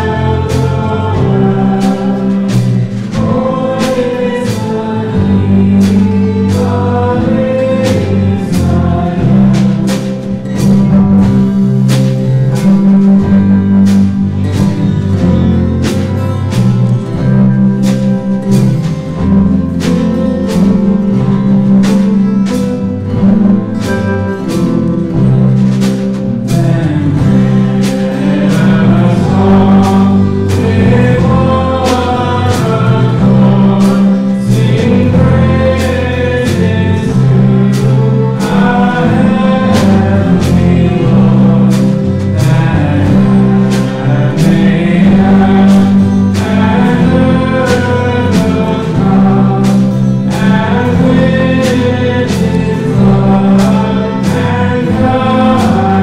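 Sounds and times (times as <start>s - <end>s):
live band playing: 0.0s - 56.0s
low bass notes: 0.0s - 56.0s
steady drum beat: 0.0s - 56.0s
voices singing: 0.0s - 56.0s.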